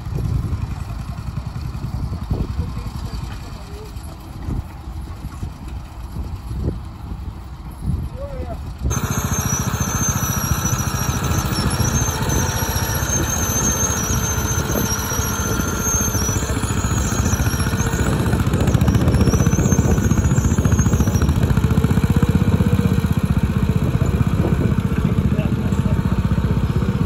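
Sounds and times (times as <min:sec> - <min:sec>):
crawler tractor engine running: 0:00.0 - 0:27.0.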